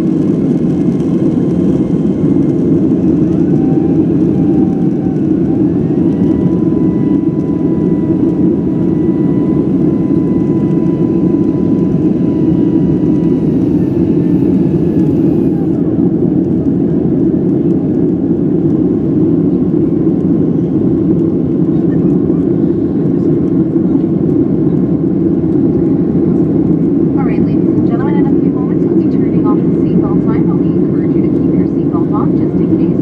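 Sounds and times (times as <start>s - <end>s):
faint engine whine: 0.0s - 33.0s
jet cabin rumble: 0.0s - 33.0s.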